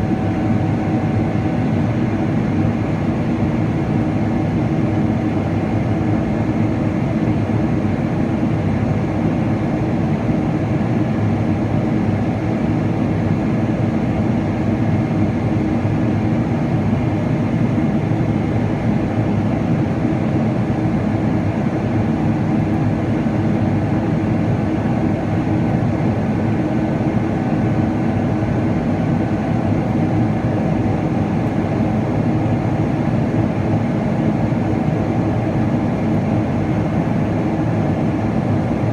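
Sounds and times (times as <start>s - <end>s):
airliner cabin engine hum: 0.0s - 38.9s.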